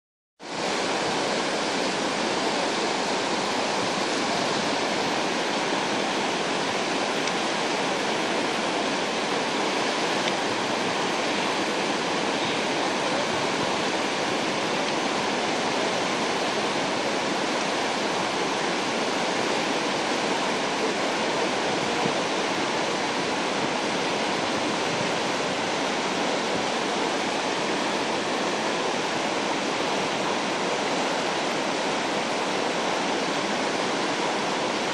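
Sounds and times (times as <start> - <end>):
whitewater rapids rushing: 0.4 - 34.9.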